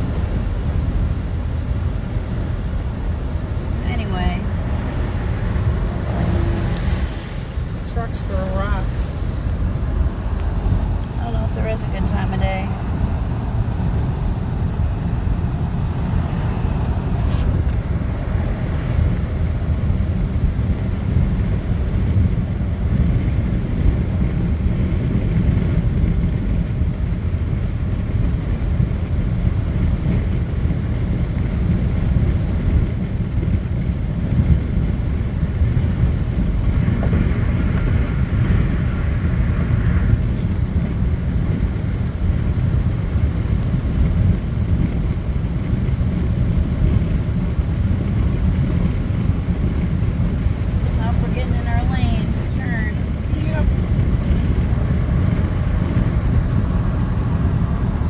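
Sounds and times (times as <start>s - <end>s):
car road noise: 0.0s - 58.0s
wind buffeting microphone: 0.0s - 58.0s.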